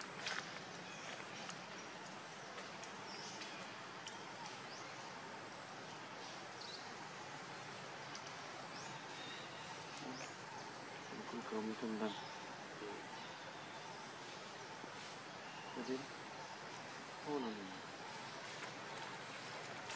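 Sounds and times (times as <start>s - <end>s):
outdoor background hiss: 0.0s - 19.9s.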